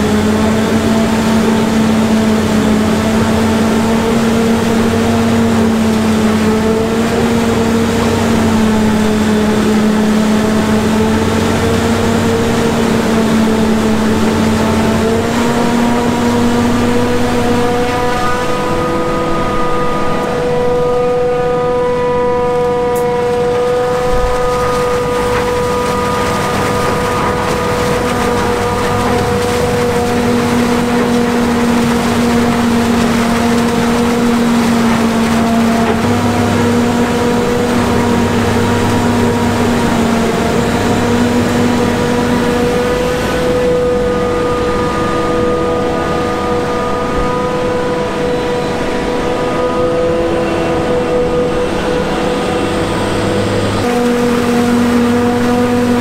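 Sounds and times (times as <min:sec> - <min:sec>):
forage harvester chopping with whine: 0:00.0 - 0:56.0
tractor engine hauling: 0:00.0 - 0:56.0.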